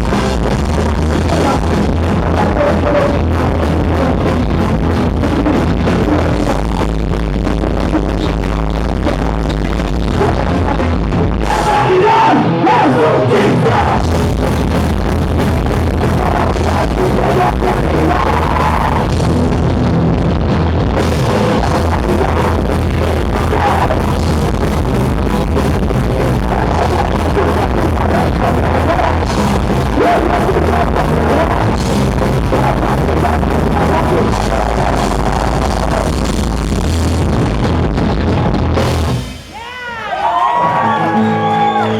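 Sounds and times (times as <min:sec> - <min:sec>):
punk rock band playing live: 0:00.0 - 0:41.9.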